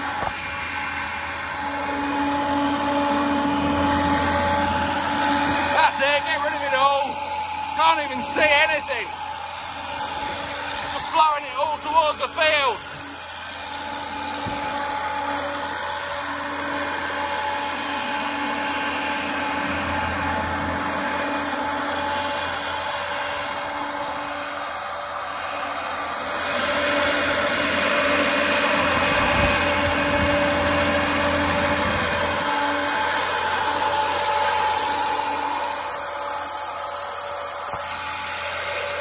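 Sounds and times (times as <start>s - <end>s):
farm blower rushing air: 0.0s - 39.0s
telehandler engine running: 0.0s - 39.0s.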